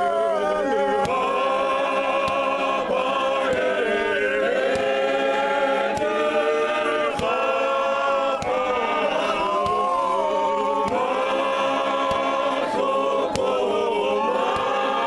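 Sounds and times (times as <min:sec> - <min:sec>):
men's choir singing a cappella: 0:00.0 - 0:15.0.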